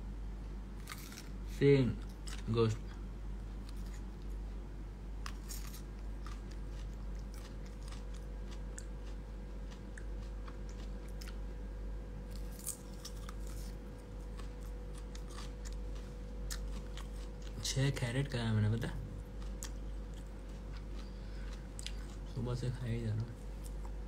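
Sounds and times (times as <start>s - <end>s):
steady low hum: 0.0s - 24.0s
carrot crunching while chewed: 0.8s - 3.0s, 3.6s - 4.4s, 5.2s - 18.0s, 18.9s - 24.0s.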